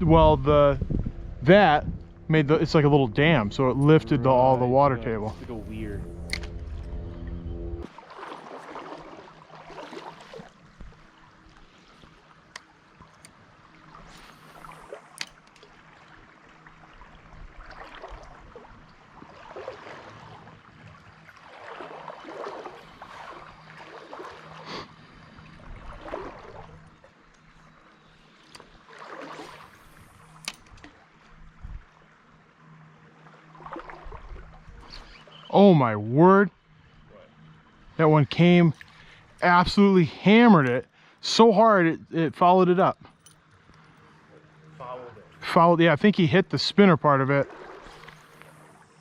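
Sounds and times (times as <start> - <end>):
water sloshing in a stream: 0.0 - 49.0.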